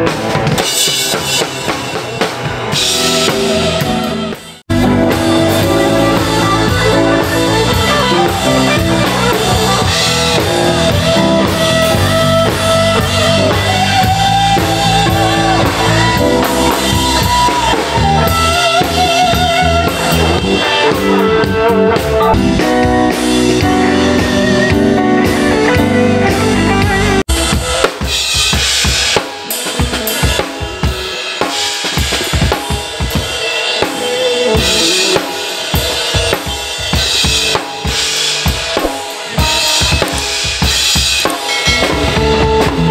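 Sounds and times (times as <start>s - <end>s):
drum kit hits: 0.0s - 42.9s
rock band playing: 0.0s - 42.9s.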